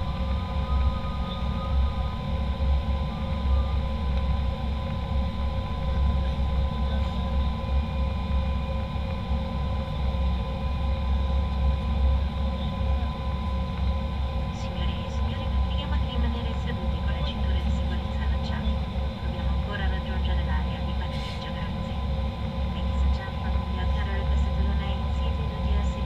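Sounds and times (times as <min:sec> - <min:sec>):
faint whining tones: 0:00.0 - 0:26.0
jet airliner cabin rumble: 0:00.0 - 0:26.0.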